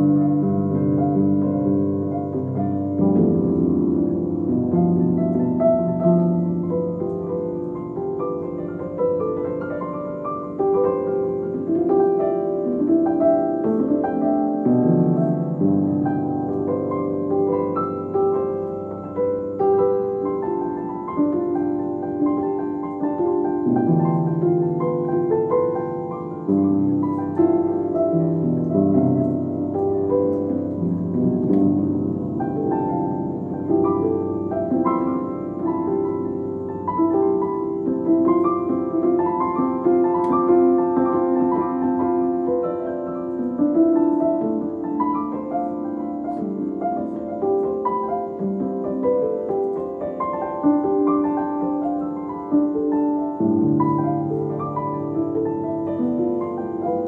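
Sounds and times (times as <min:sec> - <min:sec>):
instrumental piano music: 0:00.0 - 0:57.0.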